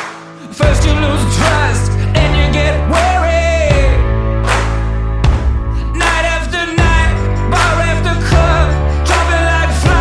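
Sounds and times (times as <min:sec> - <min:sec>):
song with singing voice and band: 0:00.0 - 0:10.0.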